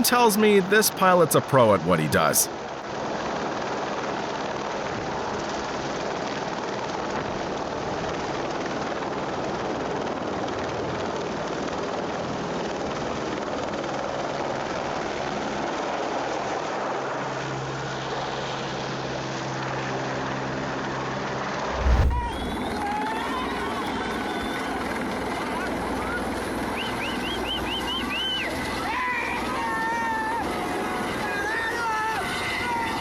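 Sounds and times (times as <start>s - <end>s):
helicopter rotor and engine: 3.1s - 21.5s, 22.3s - 32.6s.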